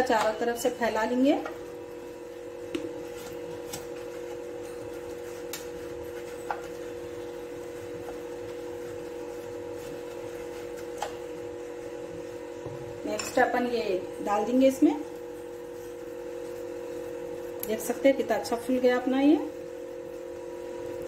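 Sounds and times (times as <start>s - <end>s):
two-tone appliance hum: 0.0s - 21.0s.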